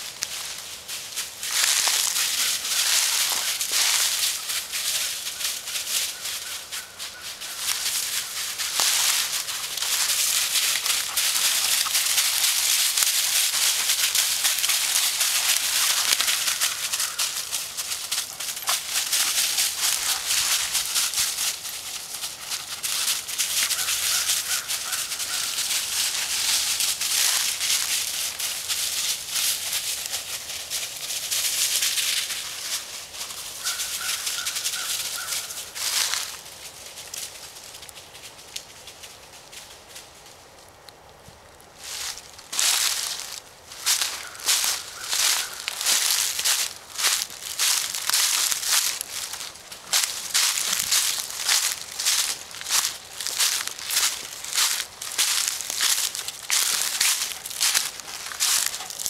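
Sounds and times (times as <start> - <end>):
footsteps crunching through dry leaves: 0.0 - 59.0.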